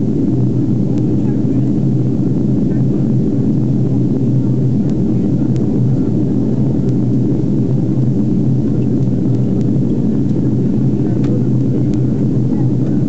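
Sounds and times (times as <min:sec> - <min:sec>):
jet engine drone and airflow: 0:00.0 - 0:13.0.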